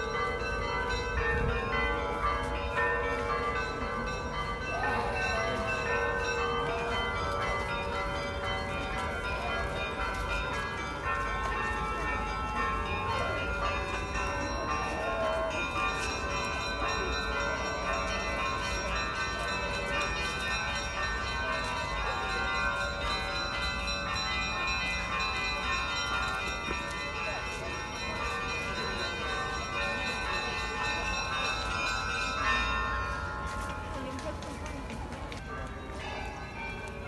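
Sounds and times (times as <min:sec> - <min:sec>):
church bells ringing: 0:00.0 - 0:37.0.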